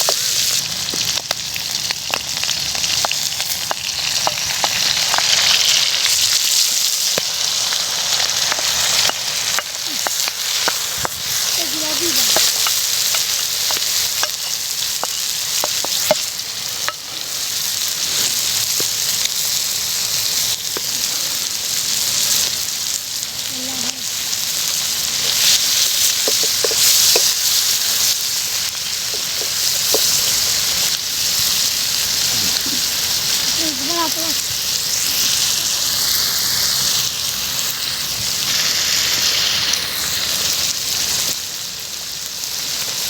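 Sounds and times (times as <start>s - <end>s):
liver sizzling in hot oil: 0.0s - 43.0s.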